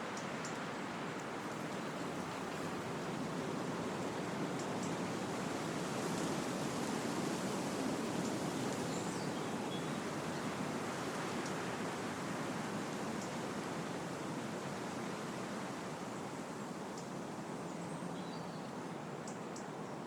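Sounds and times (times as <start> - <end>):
wind blowing through trees: 0.0 - 20.0.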